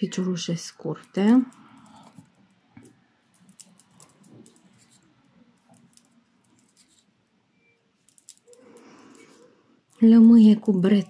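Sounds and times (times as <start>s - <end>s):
crochet hook clicking and rustling: 0.8s - 7.0s, 8.0s - 11.0s.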